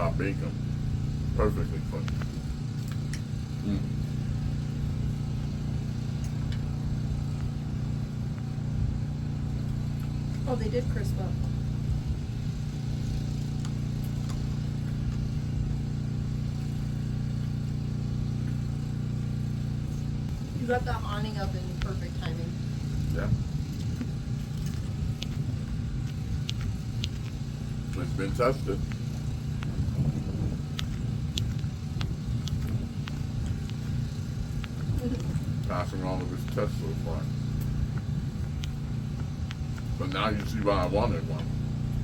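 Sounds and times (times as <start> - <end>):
engine idling: 0.0 - 42.0
steady low rumble: 0.0 - 42.0.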